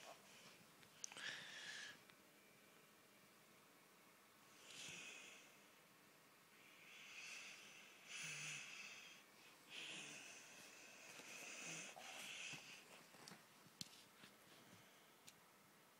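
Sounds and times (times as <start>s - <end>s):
soft hissy breathing: 0.0s - 3.0s, 4.4s - 15.4s.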